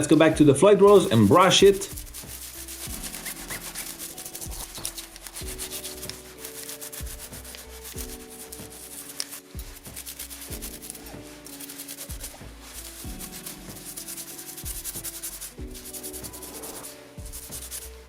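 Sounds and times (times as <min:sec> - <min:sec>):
quiet background music: 0:00.0 - 0:18.0
brush scrubbing metal: 0:00.9 - 0:18.0.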